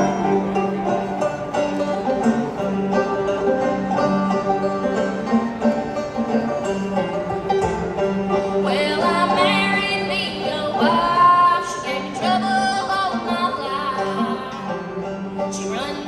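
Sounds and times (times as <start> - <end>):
plucked string instruments: 0.0 - 16.0.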